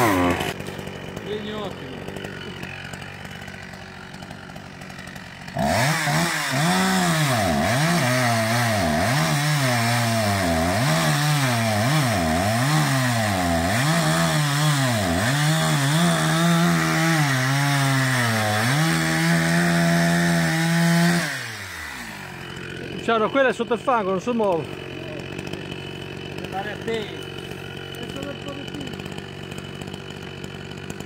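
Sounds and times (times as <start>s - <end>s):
chainsaw cutting log: 0.0s - 31.0s.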